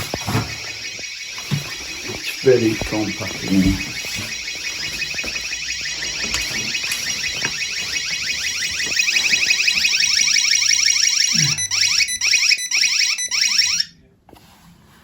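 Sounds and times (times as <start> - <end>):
intruder alarm warbling tone: 0.0 - 13.9.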